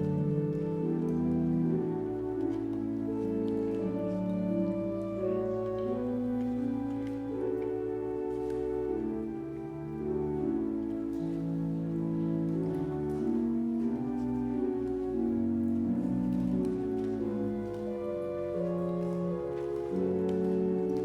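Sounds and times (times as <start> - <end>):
slow instrumental music with held chords: 0.0 - 21.0.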